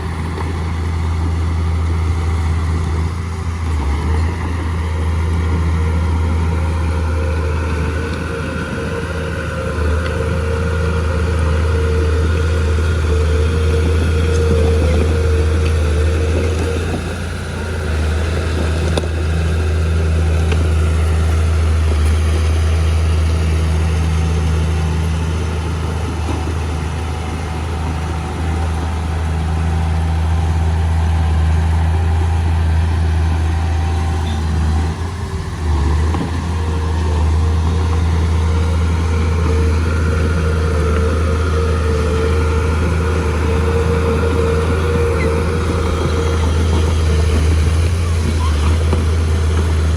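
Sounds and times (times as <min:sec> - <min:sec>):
bulldozer diesel engine droning: 0:00.0 - 0:49.9.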